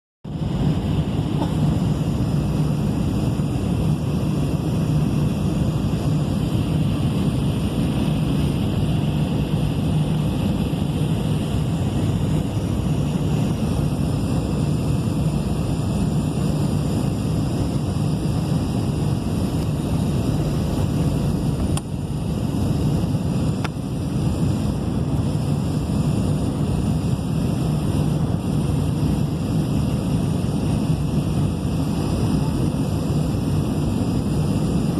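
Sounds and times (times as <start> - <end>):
jet engines and airflow roar: 0.2 - 34.9.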